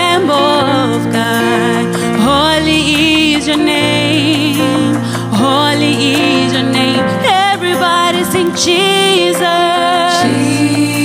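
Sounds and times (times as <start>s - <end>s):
slow worship music: 0.0s - 11.0s.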